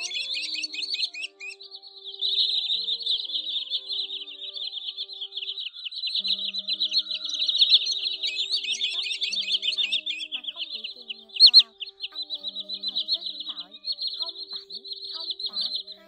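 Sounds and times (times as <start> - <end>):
rapid high bird chirping: 0.0 - 16.0
soft background music: 0.0 - 16.0.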